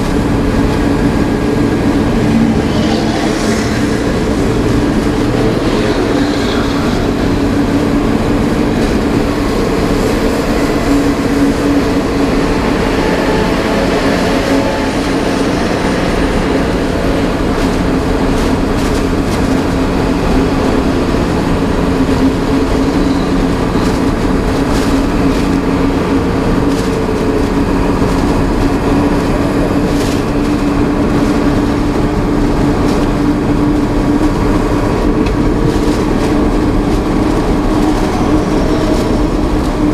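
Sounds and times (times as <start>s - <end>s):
constant low hum: 0.0s - 39.9s
truck diesel engine and tyres: 0.0s - 39.9s.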